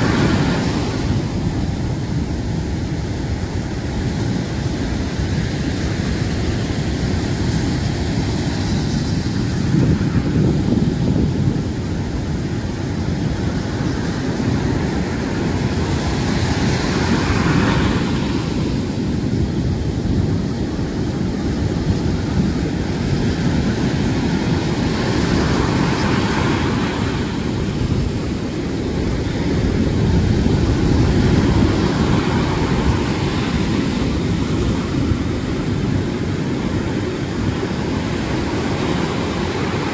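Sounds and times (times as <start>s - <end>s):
low rumble of waves: 0.0s - 39.9s.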